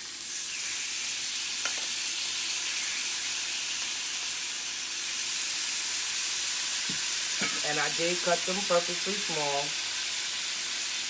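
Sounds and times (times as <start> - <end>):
meat sizzling on a griddle pan: 0.0 - 11.0.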